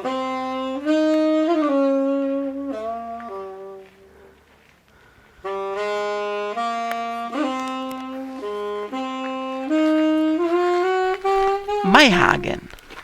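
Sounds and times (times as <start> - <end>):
saxophone-like reed melody: 0.0 - 3.8, 5.5 - 12.6.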